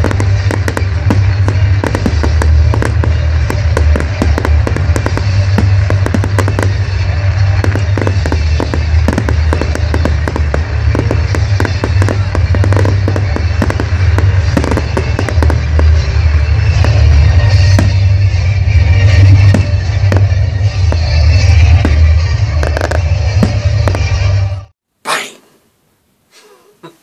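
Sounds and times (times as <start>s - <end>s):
fireworks crackling and banging: 0.0s - 24.6s
loud music with heavy bass: 0.0s - 24.7s.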